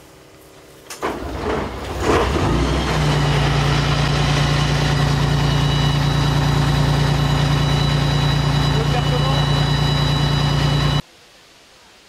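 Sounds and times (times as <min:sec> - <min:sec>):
tracked vehicle engine idling: 0:01.0 - 0:11.0.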